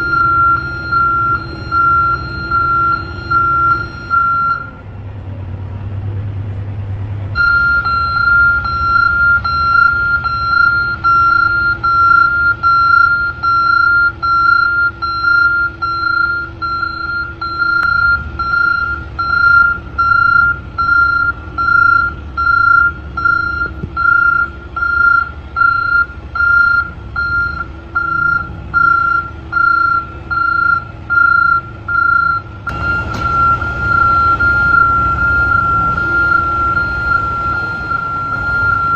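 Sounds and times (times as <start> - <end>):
reversing alarm beeping: 0.0 - 4.8, 7.4 - 38.9
low engine rumble: 0.0 - 38.9.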